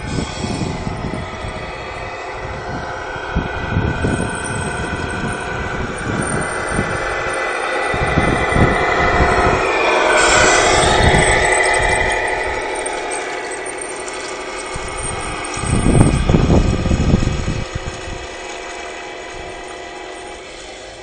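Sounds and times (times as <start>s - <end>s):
rc truck mechanical running: 0.0s - 21.0s.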